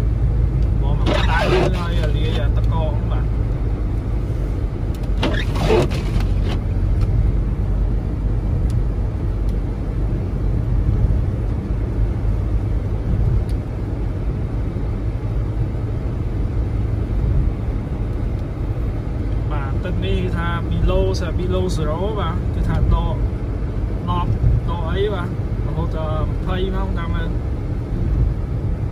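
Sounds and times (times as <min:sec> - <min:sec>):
car tyres and engine rumble: 0:00.0 - 0:28.9.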